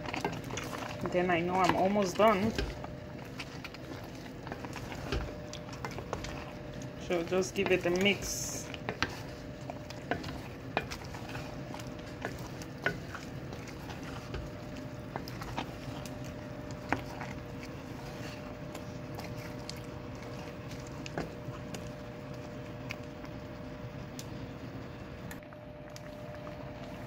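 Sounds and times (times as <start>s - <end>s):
soft simmering: 0.0s - 27.0s
steady low hum: 0.0s - 27.0s
wooden spoon stirring thick soup: 0.0s - 27.0s.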